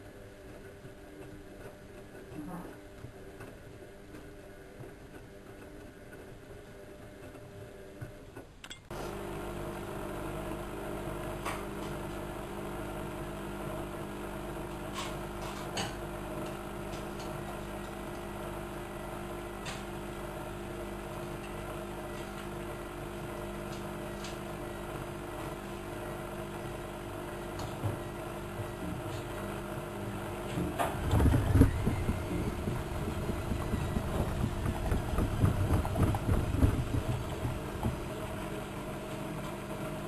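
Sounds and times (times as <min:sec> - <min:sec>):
washing machine hum and rumble: 0:00.0 - 0:40.0.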